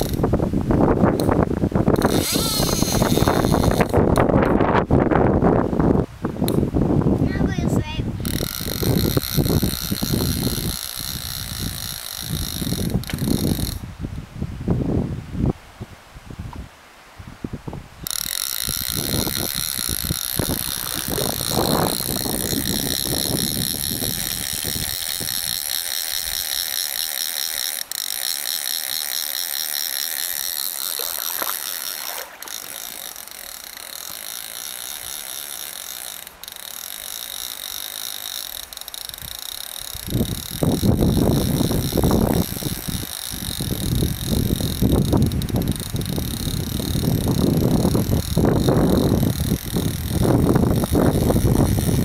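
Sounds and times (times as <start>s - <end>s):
fishing reel ratchet buzzing: 0.0s - 5.1s, 7.9s - 13.9s, 18.0s - 52.0s.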